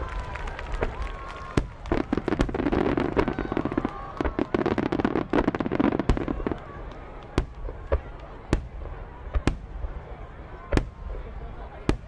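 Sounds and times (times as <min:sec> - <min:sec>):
fireworks pops and bangs: 0:00.0 - 0:10.0, 0:10.7 - 0:12.0
fireworks crackling: 0:00.0 - 0:12.0.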